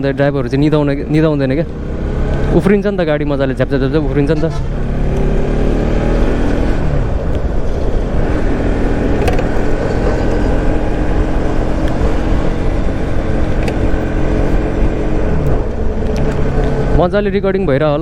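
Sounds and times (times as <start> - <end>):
motorcycle engine running: 0.8 - 17.3.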